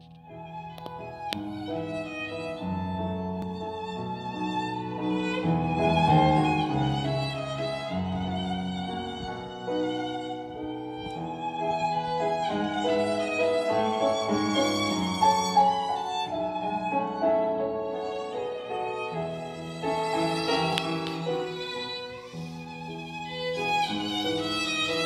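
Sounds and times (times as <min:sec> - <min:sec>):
violin music: 0:00.0 - 0:25.0.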